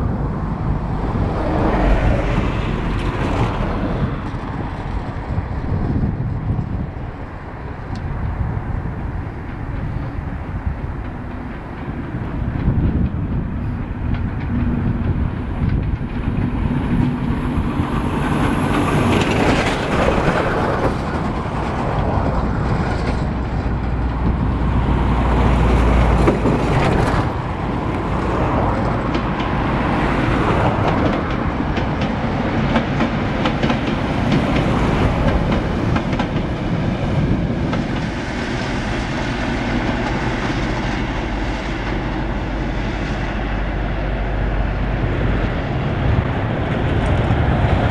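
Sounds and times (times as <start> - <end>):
diesel train rumble: 0.0 - 47.9
train wheels clacking on rail joints: 0.7 - 6.9, 7.8 - 43.5.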